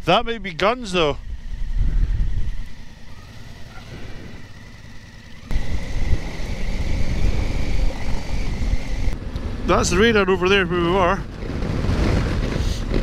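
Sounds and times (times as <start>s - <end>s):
wind noise: 0.0s - 3.0s, 5.5s - 13.0s
steady high whine: 0.0s - 11.2s
motorcycle engine rumble: 0.0s - 13.0s.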